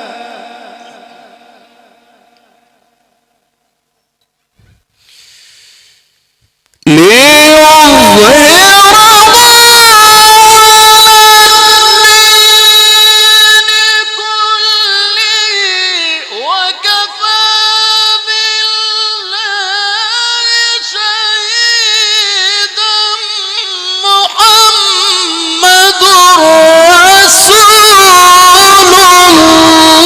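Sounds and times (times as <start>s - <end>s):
man reciting through sound system: 0.0s - 1.0s, 6.9s - 30.0s.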